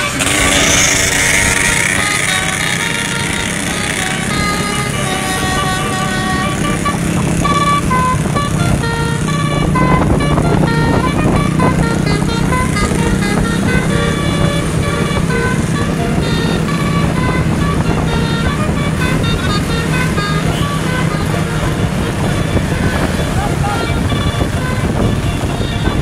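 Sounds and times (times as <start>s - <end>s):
bus engine hum: 0.0s - 26.0s
bus horn playing a melody: 0.0s - 26.0s.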